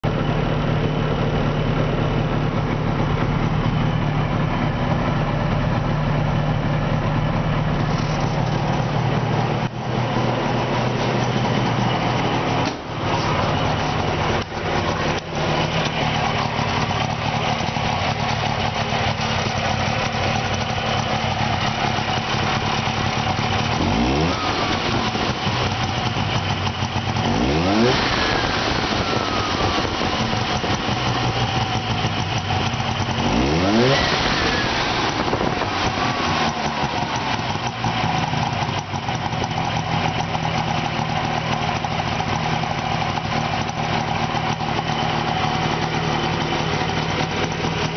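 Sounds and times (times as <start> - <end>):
two-stroke engine idling: 0.0 - 47.9
engine throttle blips: 0.1 - 40.8.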